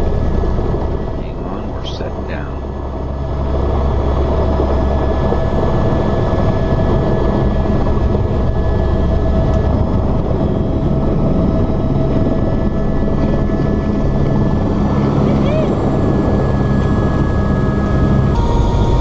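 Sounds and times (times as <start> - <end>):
helicopter drone in cabin: 0.0 - 19.0
thin steady whine: 0.0 - 19.0.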